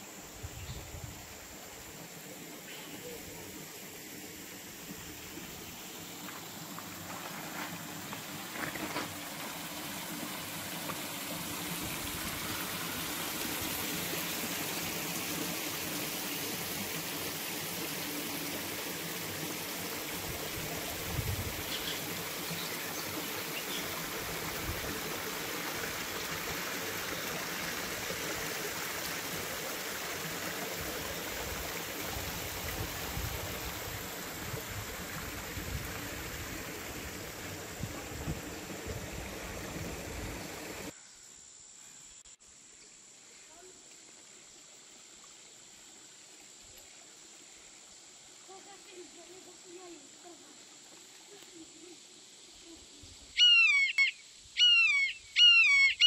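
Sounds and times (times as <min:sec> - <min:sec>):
stream running over stones: 0:00.0 - 0:41.0, 0:42.6 - 0:53.4.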